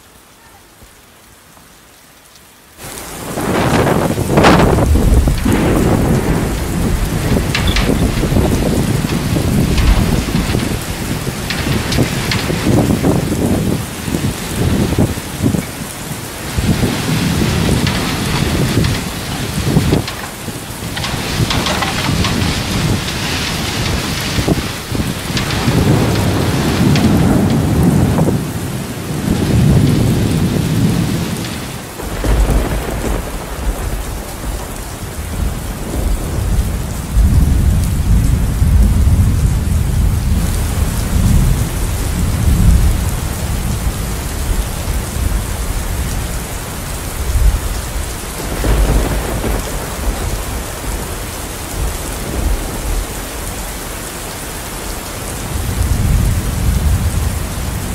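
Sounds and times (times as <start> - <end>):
heavy rain: 0.0 - 57.9
thunder rolling: 2.8 - 57.9.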